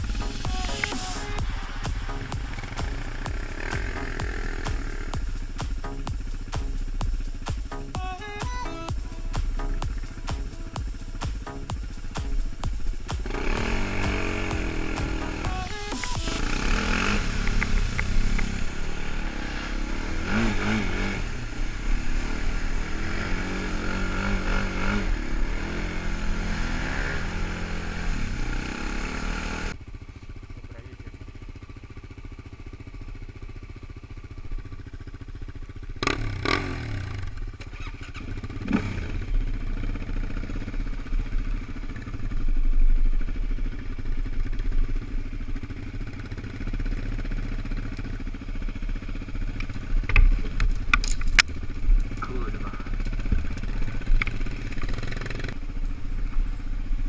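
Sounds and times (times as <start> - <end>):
engine revving: 0.0 - 29.8, 35.9 - 55.8
quad engine running: 0.0 - 57.0
quads idling: 0.0 - 57.0.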